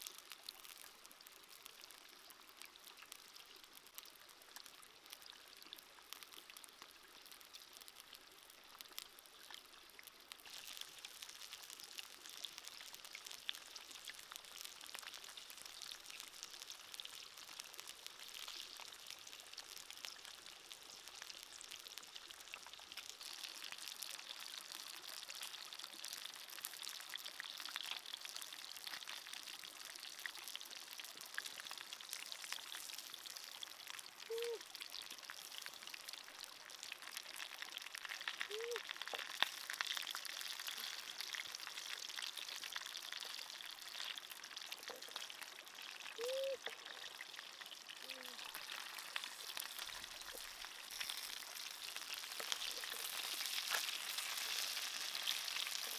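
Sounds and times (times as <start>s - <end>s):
fish sizzling: 0.0s - 55.9s.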